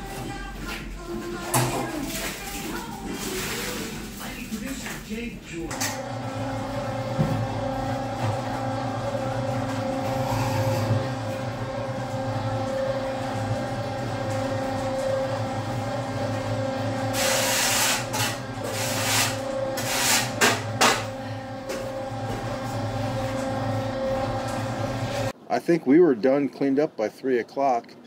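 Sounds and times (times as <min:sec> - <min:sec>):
concrete mixer motor hum: 0:00.0 - 0:25.4.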